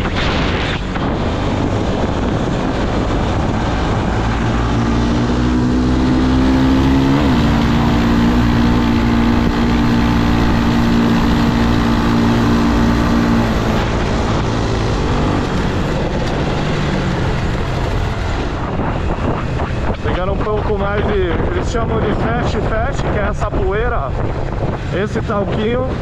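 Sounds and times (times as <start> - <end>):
motorcycle engine running: 0.0 - 26.0
rough engine rumble: 0.0 - 26.0.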